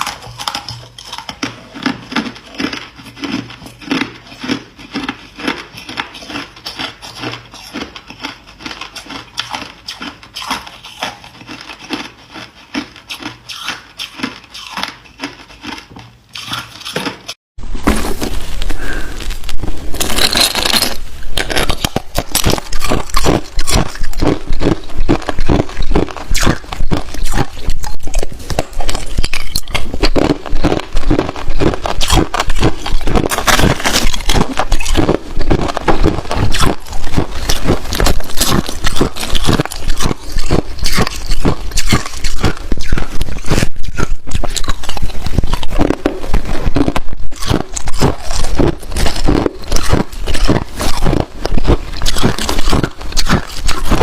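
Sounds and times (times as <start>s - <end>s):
ice crunching while chewed: 0.0s - 17.4s, 18.3s - 54.0s.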